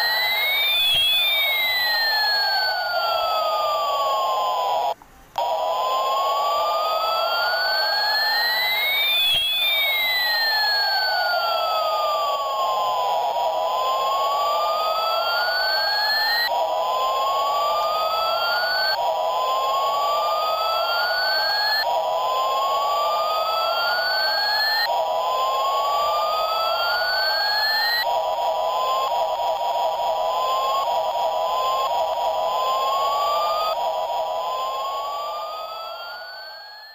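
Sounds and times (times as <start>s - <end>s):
electronic siren wailing: 0.0s - 36.9s
steady hum: 0.0s - 36.9s.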